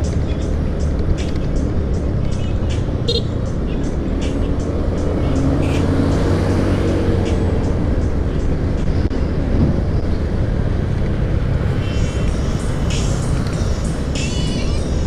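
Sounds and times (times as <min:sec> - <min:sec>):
scooter engine hum: 0:00.0 - 0:15.0
wind and road noise: 0:00.0 - 0:15.0.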